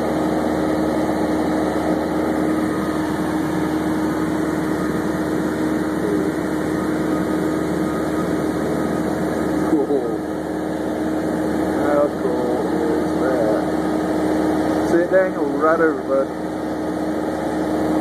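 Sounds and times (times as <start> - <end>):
aircraft engine drone in cabin: 0.0 - 18.0.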